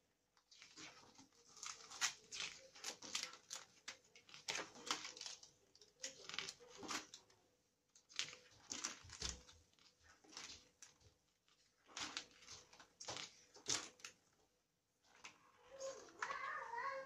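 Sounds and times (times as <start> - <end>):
book pages turning: 0.4 - 7.4, 8.0 - 14.4, 15.0 - 17.0.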